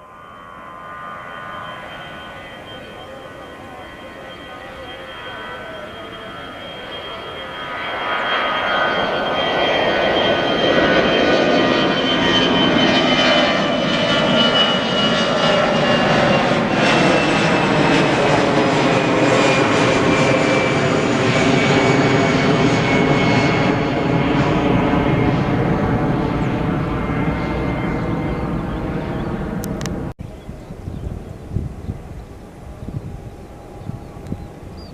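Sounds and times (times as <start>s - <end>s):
high falling whine: 0.0s - 34.8s
jet engines roaring: 0.0s - 34.9s.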